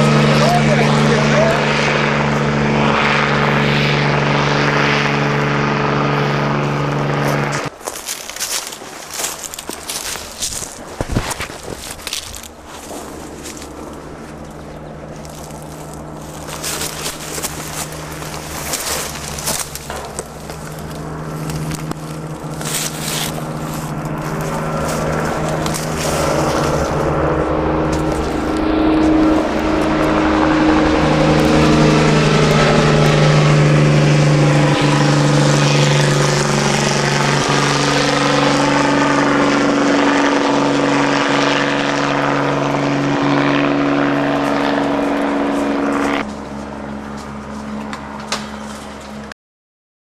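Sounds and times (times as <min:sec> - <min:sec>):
helicopter flying overhead: 0:00.0 - 0:49.3.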